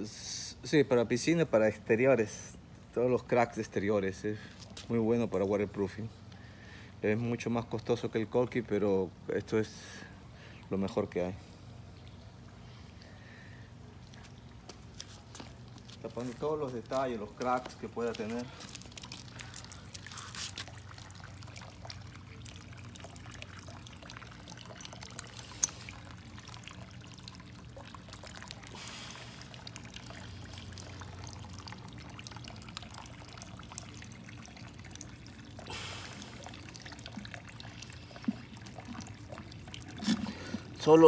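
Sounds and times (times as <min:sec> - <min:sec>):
low steady hum: 0:00.0 - 0:41.0
water trickling: 0:03.4 - 0:41.0.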